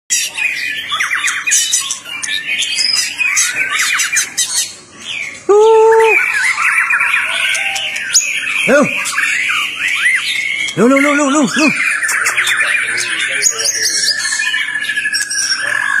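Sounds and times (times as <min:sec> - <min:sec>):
bird singing: 0:00.1 - 0:16.0.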